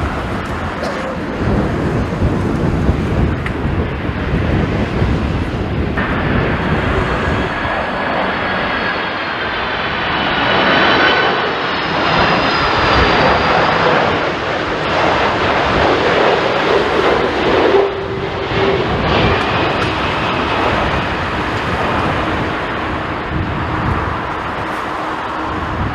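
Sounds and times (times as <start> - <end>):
jet engines roaring overhead: 0.0 - 25.9
wind on microphone: 0.0 - 25.9.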